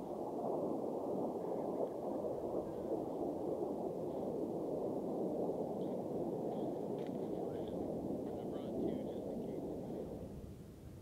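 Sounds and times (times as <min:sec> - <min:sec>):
distant jet aircraft roar: 0:00.0 - 0:10.8.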